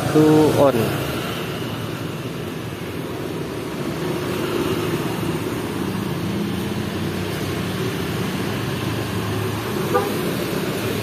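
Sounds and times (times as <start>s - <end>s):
motorbike engines passing: 0.0s - 11.0s
road noise: 0.0s - 11.0s.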